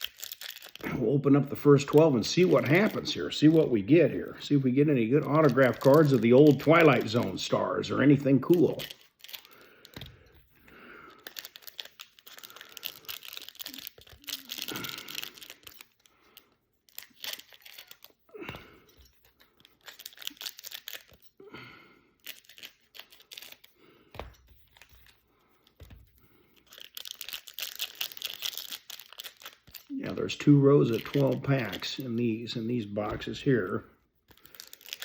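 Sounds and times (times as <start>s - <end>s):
wrappers crinkling and tearing: 0.0s - 35.0s.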